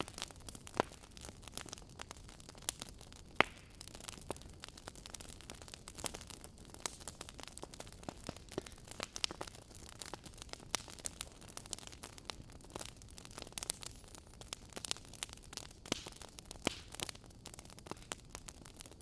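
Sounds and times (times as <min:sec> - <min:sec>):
logs crackling in fireplace: 0:00.0 - 0:19.0
low fire hiss: 0:00.0 - 0:19.0.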